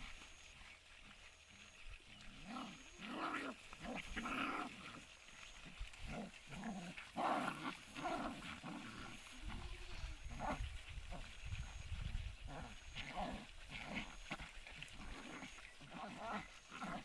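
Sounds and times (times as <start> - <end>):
puppies growling and snarling: 1.5 - 17.0.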